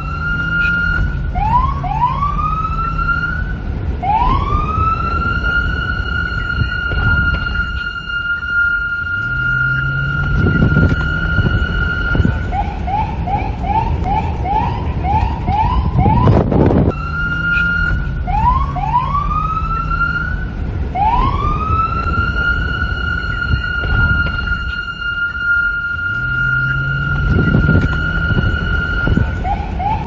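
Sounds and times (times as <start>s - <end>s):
low rumble: 0.0s - 30.0s
police siren: 0.0s - 30.0s
wind noise: 0.0s - 30.0s.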